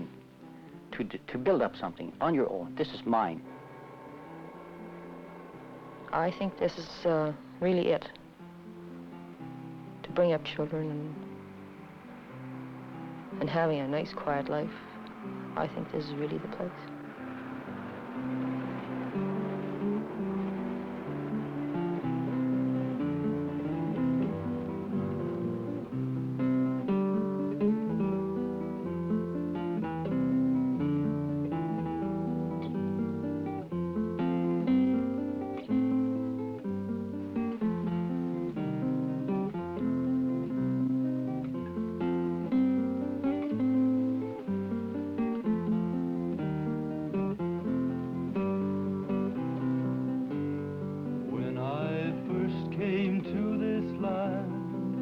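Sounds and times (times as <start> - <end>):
acoustic guitar plucking: 0.0 - 55.0.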